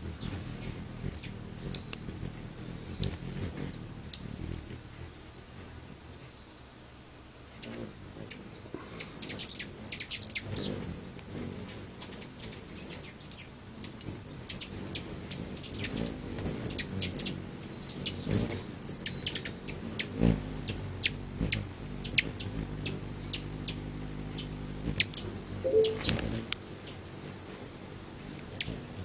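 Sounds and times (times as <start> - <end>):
hummingbirds chipping and chattering: 0.0 - 29.0.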